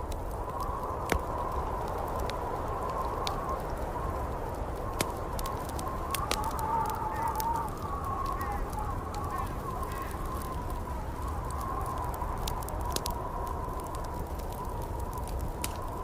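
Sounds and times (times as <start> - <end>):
wind whistling: 0.0 - 16.0
wood fire crackling: 0.0 - 16.0.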